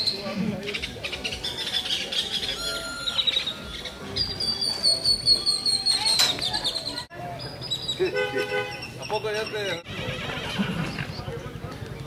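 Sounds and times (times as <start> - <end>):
birds chirping and singing: 0.0 - 12.0.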